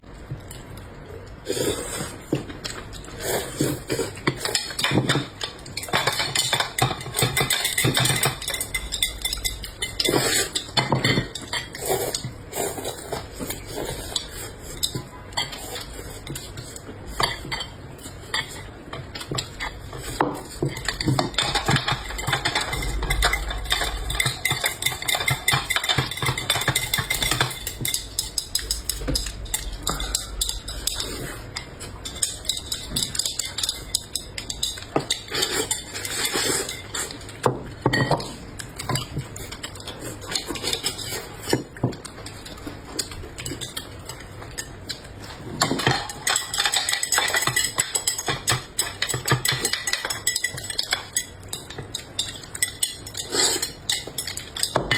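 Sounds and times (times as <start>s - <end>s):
cutlery clinking against dishes: 2.3s - 54.9s.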